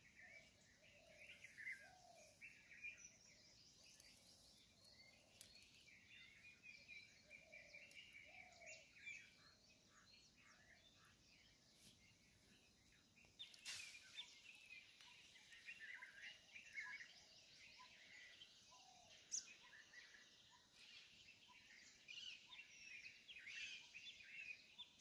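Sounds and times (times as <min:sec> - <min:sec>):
birds chirping and warbling: 0:00.0 - 0:25.0.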